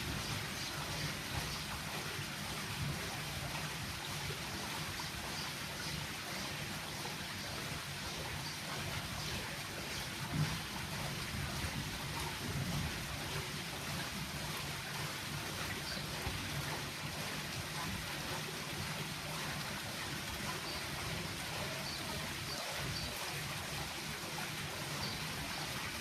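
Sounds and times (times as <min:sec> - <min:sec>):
brook water rushing: 0:00.0 - 0:26.0.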